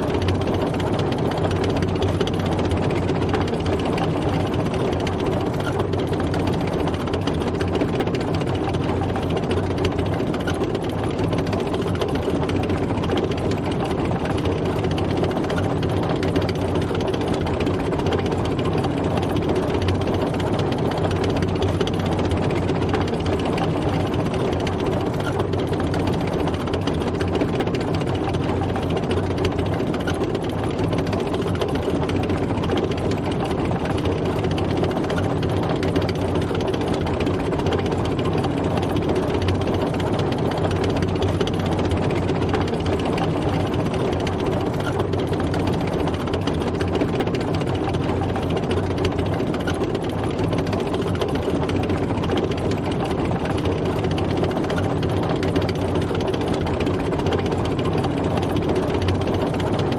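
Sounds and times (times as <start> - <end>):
tank engine running: 0.0 - 59.9.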